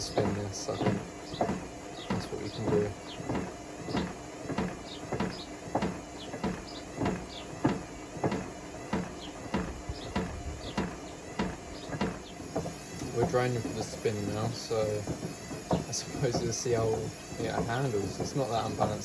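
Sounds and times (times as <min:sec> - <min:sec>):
bricks knocking in washing machine drum: 0:00.0 - 0:19.0
washing machine motor hum: 0:00.0 - 0:19.0.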